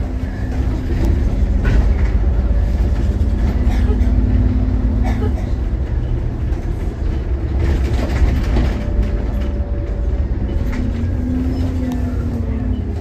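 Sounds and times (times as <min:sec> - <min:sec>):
bus engine and road rumble: 0:00.0 - 0:13.0
body rattles and clicks: 0:00.4 - 0:13.0.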